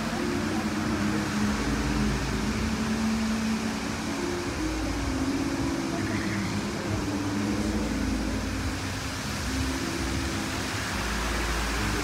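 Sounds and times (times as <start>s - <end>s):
fountain water jets spraying: 0.0s - 12.0s
music with slow low notes: 0.0s - 12.0s.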